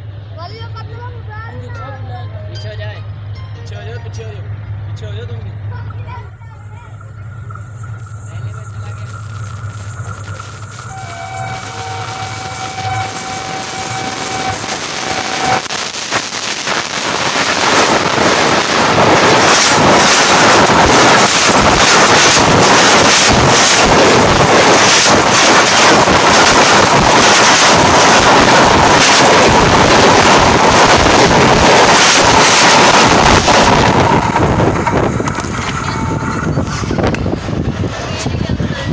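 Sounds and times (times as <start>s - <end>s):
thin steady whine: 0.0s - 38.9s
train wheels rushing on rails: 0.0s - 38.9s.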